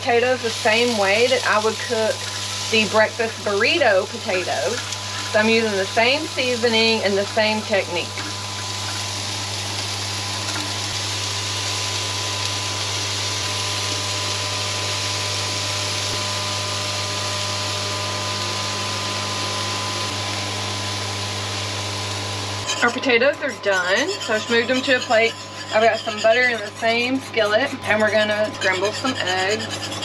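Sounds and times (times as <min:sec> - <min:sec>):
potatoes sizzling in a skillet: 0:00.0 - 0:29.7
low motor-like hum: 0:00.0 - 0:30.0.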